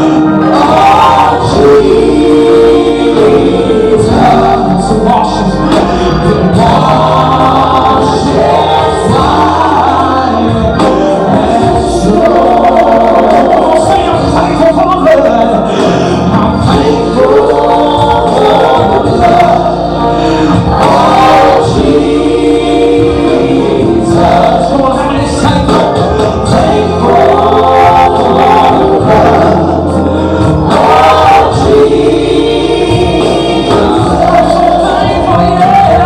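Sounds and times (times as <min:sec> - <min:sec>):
gospel choir singing with band: 0:00.0 - 0:36.0.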